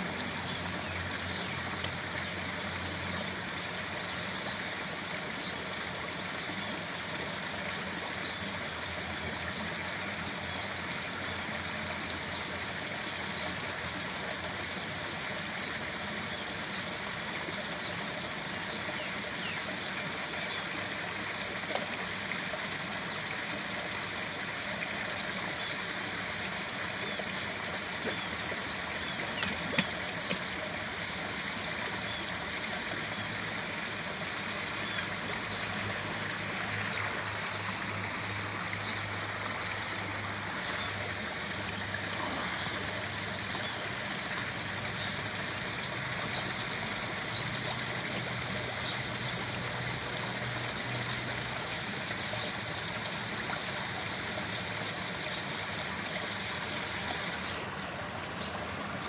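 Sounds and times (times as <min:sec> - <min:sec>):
water trickling in pond: 0:00.0 - 0:59.0.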